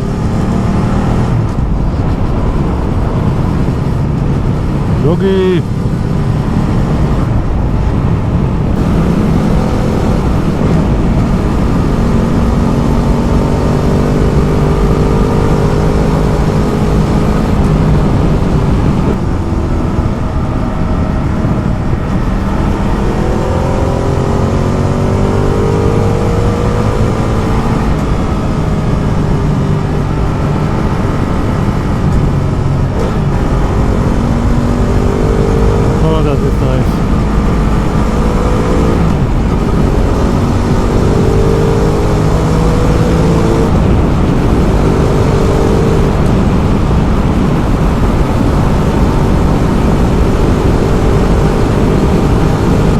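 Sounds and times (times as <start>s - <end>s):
motorcycle engine running: 0.0s - 52.9s
wind and road noise: 0.0s - 52.9s.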